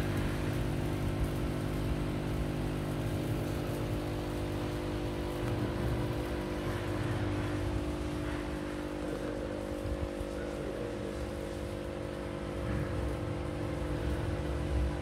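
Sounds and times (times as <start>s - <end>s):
electric motors humming: 0.0s - 15.0s.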